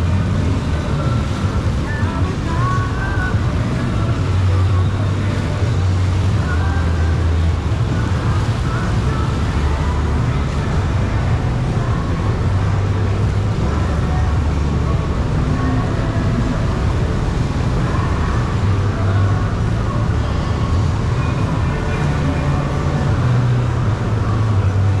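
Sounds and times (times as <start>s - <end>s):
jet ski engine running: 0.0s - 25.0s
water rushing: 0.0s - 25.0s.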